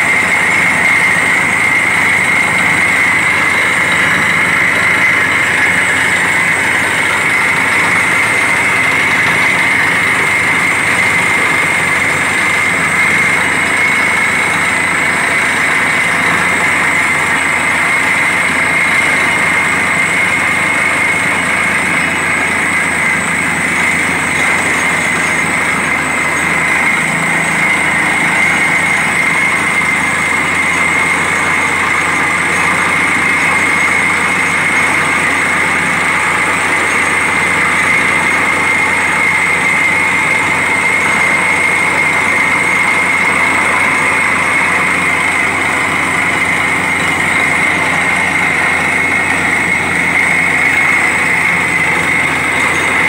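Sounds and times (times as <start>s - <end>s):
drilling rig machine drone: 0.0s - 53.0s
steady high whine: 0.0s - 53.0s.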